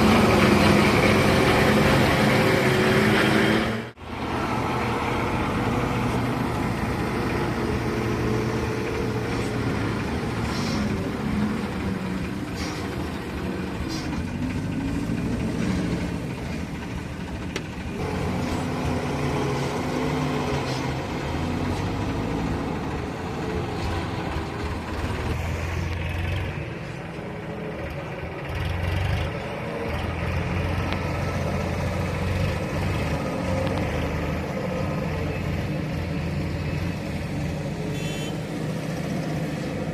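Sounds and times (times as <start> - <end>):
diesel engine under varying load: 0.0 - 39.9.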